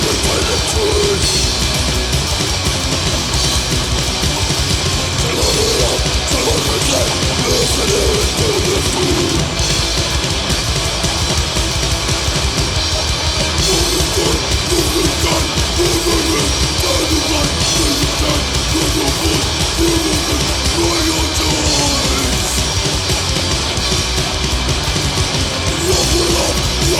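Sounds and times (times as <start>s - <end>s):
distorted guitars and bass: 0.0s - 26.9s
pounding drums: 0.0s - 26.9s.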